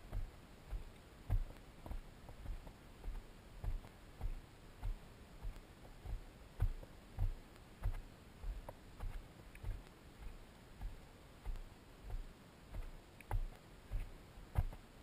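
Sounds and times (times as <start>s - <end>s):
footsteps on rocky dirt trail: 0.0s - 15.0s.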